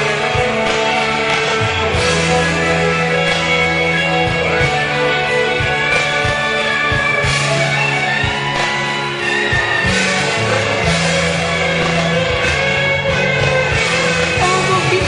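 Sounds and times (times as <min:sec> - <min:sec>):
held bass notes: 0:00.0 - 0:15.0
lead guitar: 0:00.0 - 0:15.0
steady drum beat: 0:00.0 - 0:15.0.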